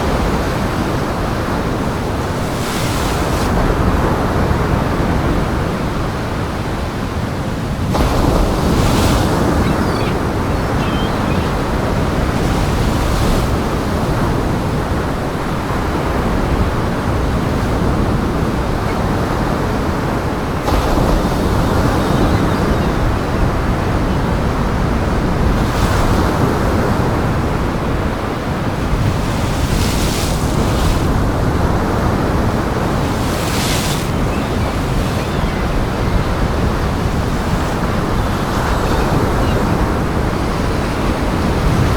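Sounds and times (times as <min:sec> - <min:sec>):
strong wind: 0:00.0 - 0:41.9
waves crashing: 0:00.0 - 0:41.9.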